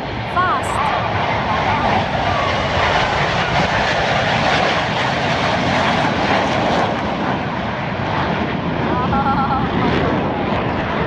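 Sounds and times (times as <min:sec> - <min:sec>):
fighter jets flying past: 0:00.0 - 0:11.0.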